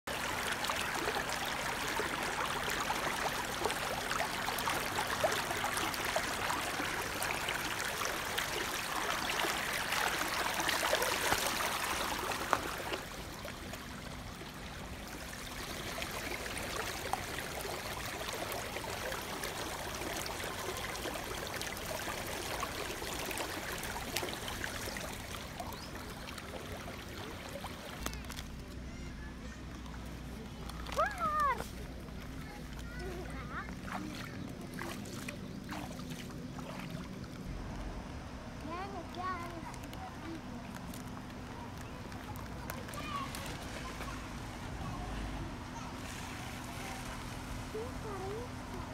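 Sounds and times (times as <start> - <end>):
stream rippling over rocks: 0.1 - 28.8, 29.6 - 48.9.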